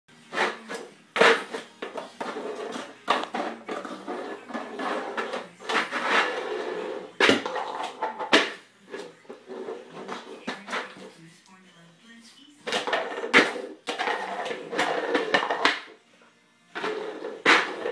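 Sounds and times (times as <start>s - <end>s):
plastic bowl scraping across floor: 0.2s - 11.2s, 12.6s - 16.0s, 16.7s - 17.9s.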